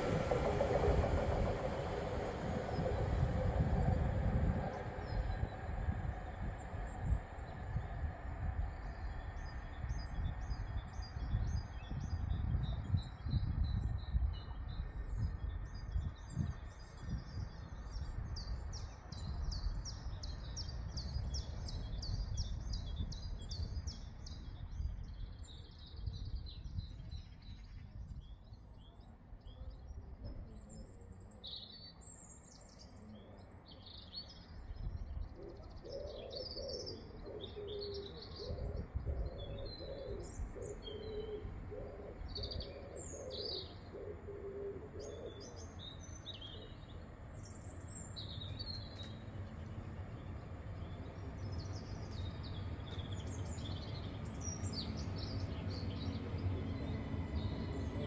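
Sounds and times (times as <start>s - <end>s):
low background rumble: 0.0s - 28.6s, 33.4s - 58.0s
small birds chirping: 0.0s - 58.0s.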